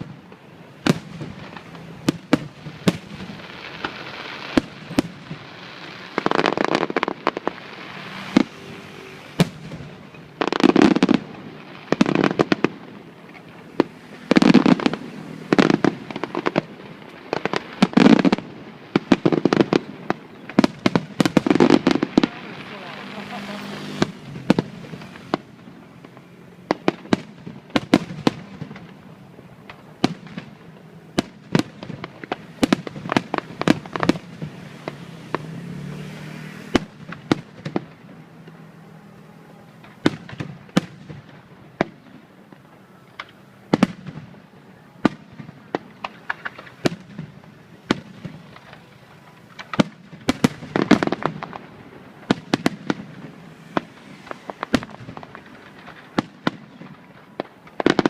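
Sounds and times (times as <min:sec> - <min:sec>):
constant rumble: 0:00.0 - 0:35.6, 0:36.7 - 0:58.0
fireworks bangs and crackles: 0:00.0 - 0:58.0.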